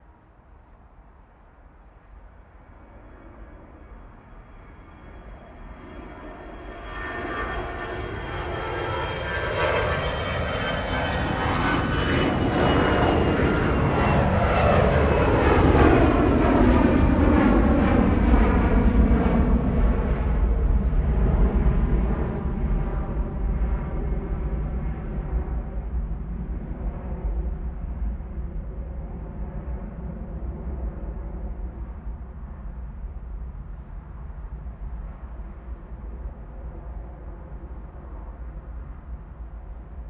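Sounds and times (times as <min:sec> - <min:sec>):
airplane taking off: 0:00.0 - 0:40.0.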